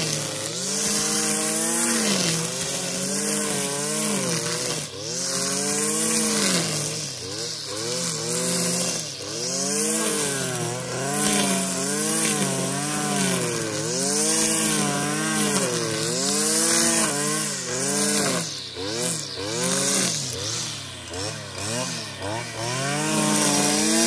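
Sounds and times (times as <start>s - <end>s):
brushcutter engine running: 0.0s - 24.0s
trimmer line cutting grass: 0.0s - 24.0s.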